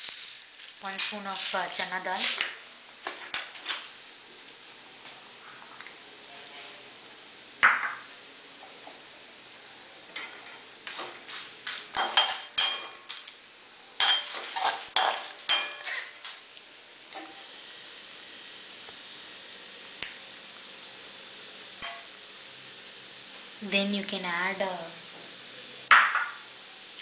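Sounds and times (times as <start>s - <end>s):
oil sizzling: 0.0s - 27.0s.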